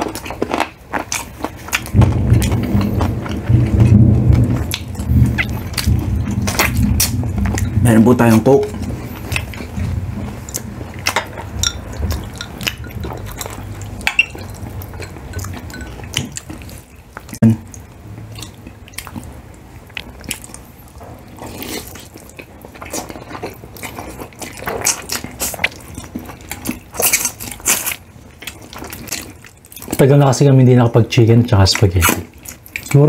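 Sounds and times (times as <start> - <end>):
biting and chewing: 0.0 - 30.0
food crunching: 0.0 - 30.6, 31.6 - 33.0.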